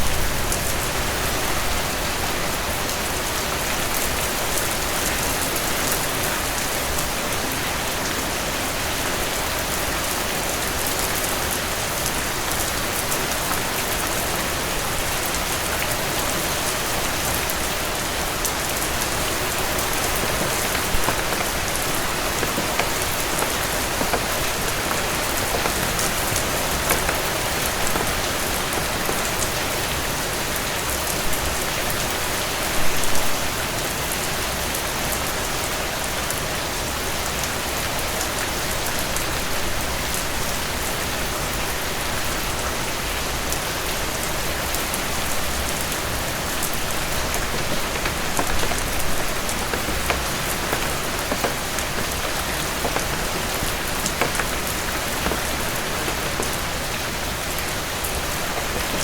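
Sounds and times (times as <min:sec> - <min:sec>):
heavy rain pattering: 0:00.0 - 0:59.0.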